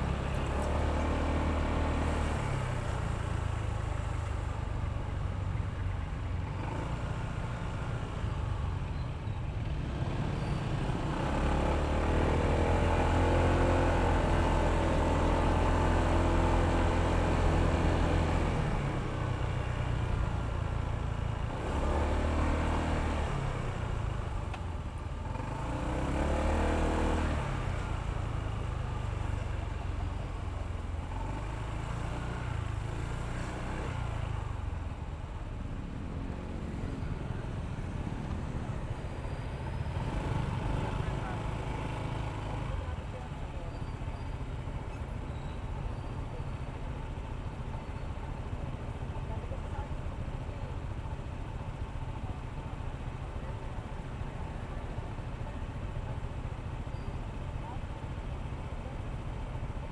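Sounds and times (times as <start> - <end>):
road noise: 0.0 - 59.9
scooter engine running: 0.0 - 59.9.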